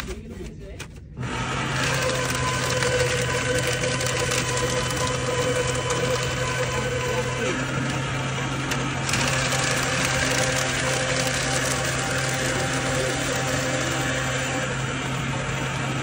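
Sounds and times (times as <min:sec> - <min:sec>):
paper shredder running: 0:00.0 - 0:16.0.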